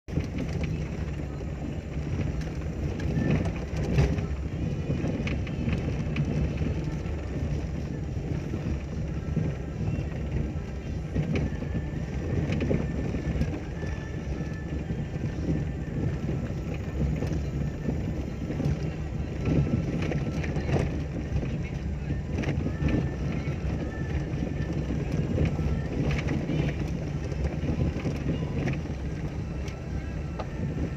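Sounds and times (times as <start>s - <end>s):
low engine and tyre rumble: 0.0s - 30.9s
knocks and rattles over bumps: 0.1s - 30.9s.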